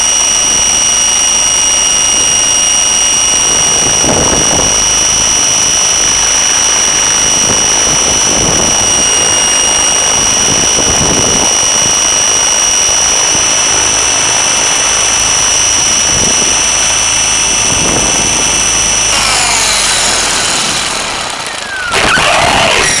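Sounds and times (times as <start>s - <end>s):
rc helicopter motor whine: 0.0s - 23.0s
rotor rushing noise: 3.0s - 23.0s.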